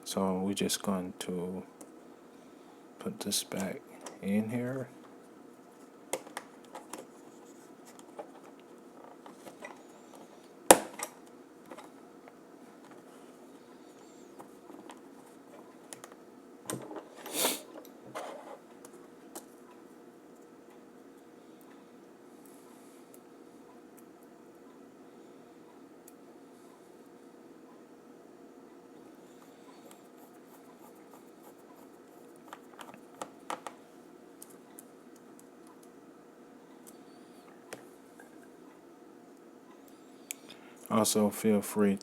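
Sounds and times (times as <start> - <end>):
steady low hiss: 0.0 - 42.0.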